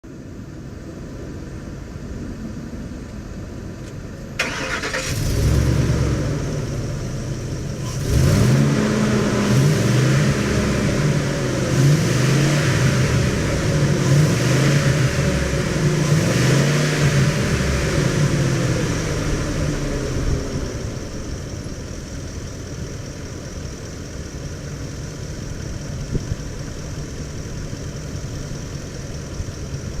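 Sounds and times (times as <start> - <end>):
pickup engine cranking and revving: 4.4 - 30.0.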